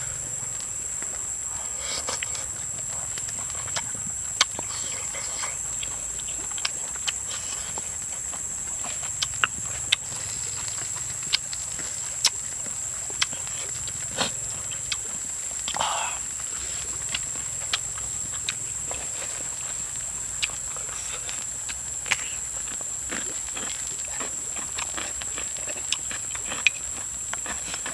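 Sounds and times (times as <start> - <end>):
steady high hiss: 0.0 - 27.9.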